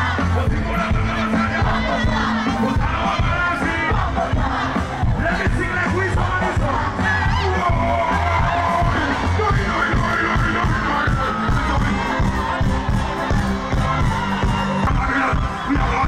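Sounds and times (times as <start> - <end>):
people singing: 0.0 - 14.3
crowd shouting and cheering: 0.0 - 16.0
live band music over pa: 0.0 - 16.0.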